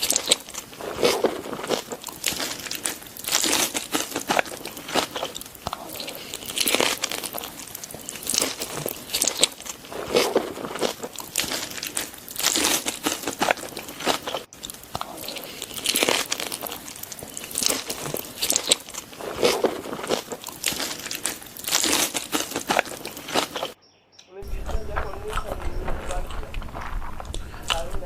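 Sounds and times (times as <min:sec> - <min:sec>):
person chewing crunchy food: 0:00.0 - 0:23.8, 0:24.4 - 0:28.0.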